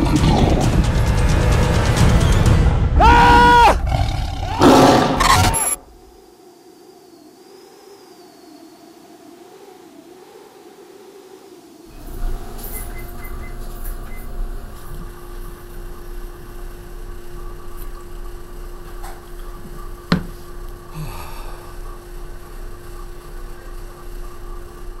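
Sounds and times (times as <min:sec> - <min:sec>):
indoor hum: 0:00.0 - 0:06.9, 0:11.9 - 0:25.0.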